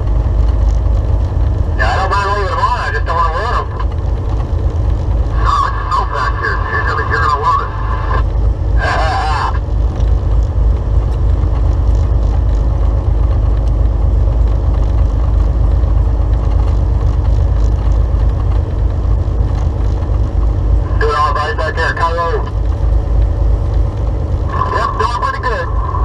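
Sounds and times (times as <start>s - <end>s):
truck engine and tyre drone: 0.0s - 26.0s.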